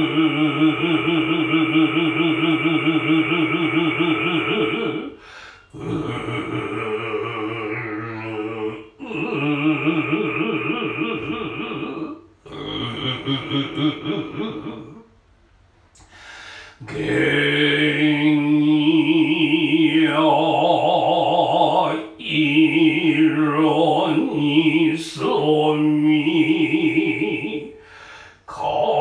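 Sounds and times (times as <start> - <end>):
man chanting with vibrato: 0.0 - 15.0, 16.8 - 29.0.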